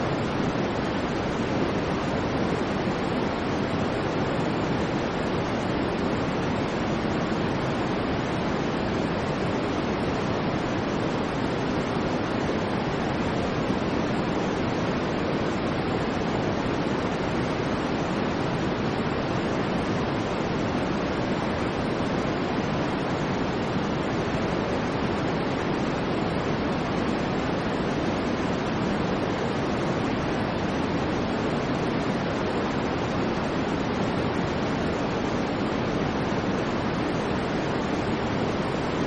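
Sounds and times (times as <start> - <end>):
steady white noise hiss: 0.0 - 39.0.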